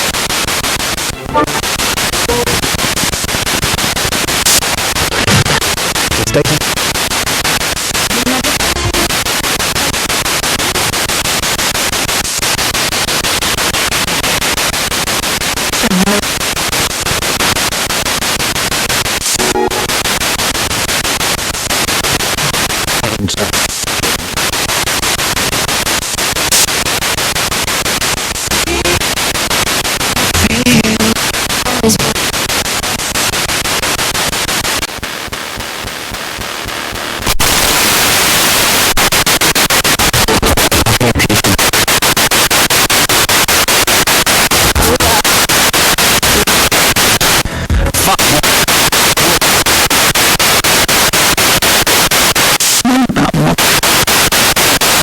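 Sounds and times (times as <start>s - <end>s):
snatches of radio voices: 0.0s - 11.4s, 15.4s - 17.7s, 18.6s - 34.9s, 37.2s - 55.0s
fast scan ticking: 0.0s - 34.9s, 36.2s - 55.0s
radio static hiss: 0.0s - 55.0s
snatches of radio music: 0.0s - 55.0s.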